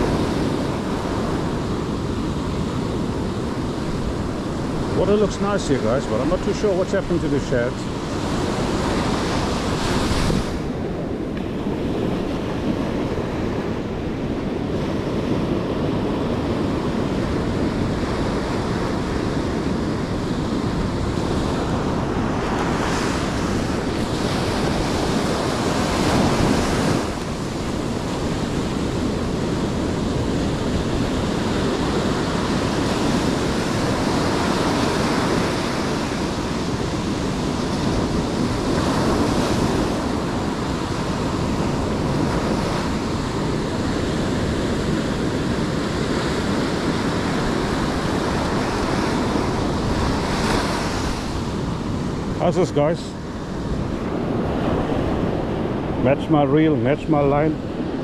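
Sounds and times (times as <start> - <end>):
ocean surf breaking: 0.0 - 58.0
wind buffeting microphone: 0.0 - 58.0.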